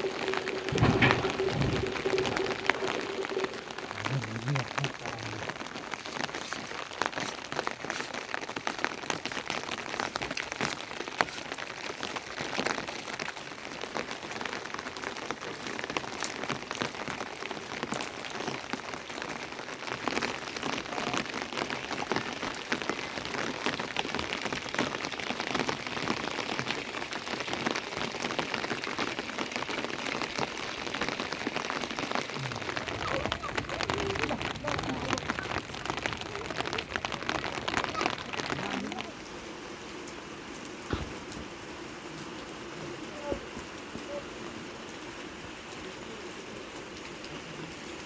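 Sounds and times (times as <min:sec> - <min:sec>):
heavy rain on hard surface: 0:00.0 - 0:48.0.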